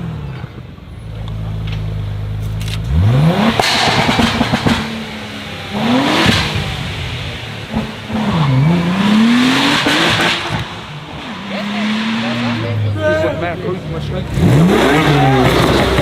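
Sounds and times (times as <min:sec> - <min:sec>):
car engine idling and revving: 0:00.0 - 0:16.0
exhaust crackles and pops: 0:01.1 - 0:12.8, 0:14.7 - 0:16.0.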